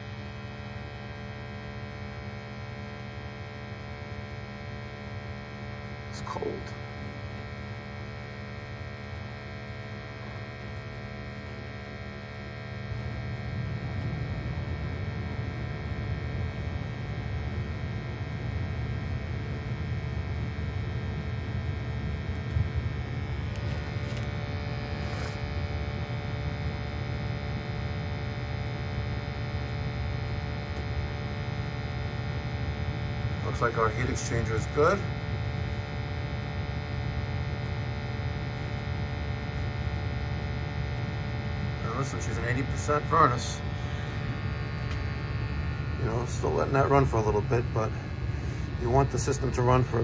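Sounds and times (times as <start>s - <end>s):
furnace motor hum: 0.0s - 50.0s.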